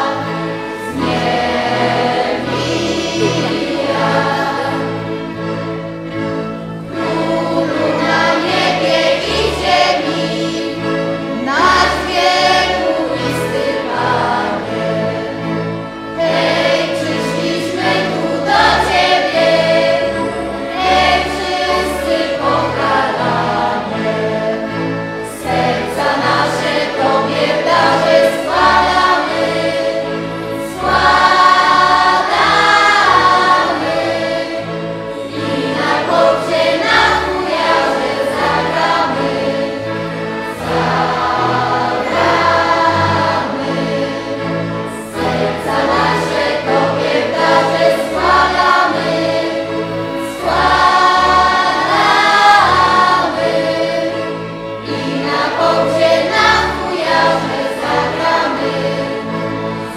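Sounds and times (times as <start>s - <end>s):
choir singing a carol: 0.0s - 59.9s.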